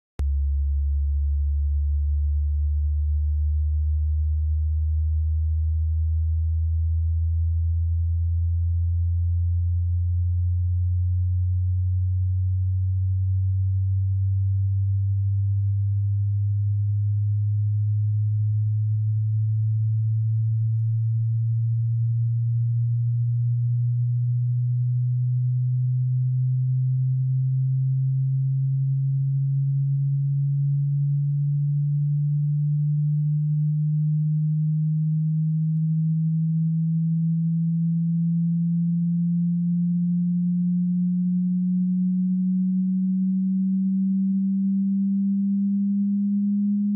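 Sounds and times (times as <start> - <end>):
sine tone rising in pitch: 0.2 - 46.9.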